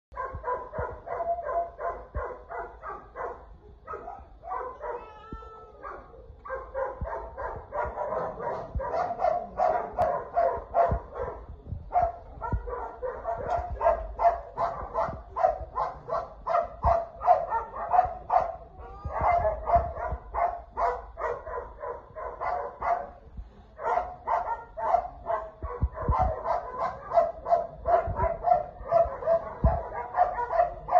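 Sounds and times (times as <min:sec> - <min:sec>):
dogs barking rapidly: 0:00.1 - 0:05.2, 0:05.8 - 0:30.9.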